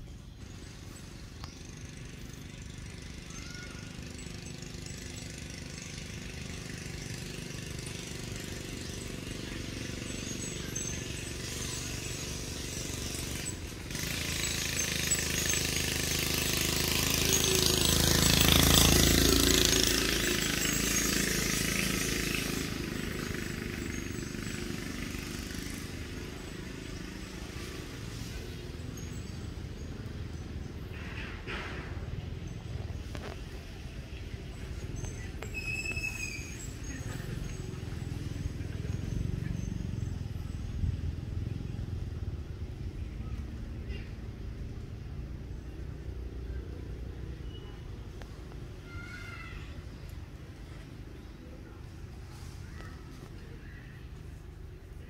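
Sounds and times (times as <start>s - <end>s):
vehicle engine passing by: 0.0s - 55.0s.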